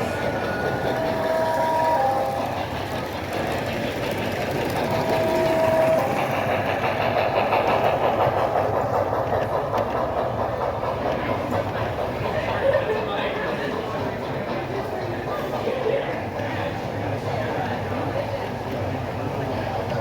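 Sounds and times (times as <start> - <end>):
recorded steam locomotive sounds: 0.0 - 20.0.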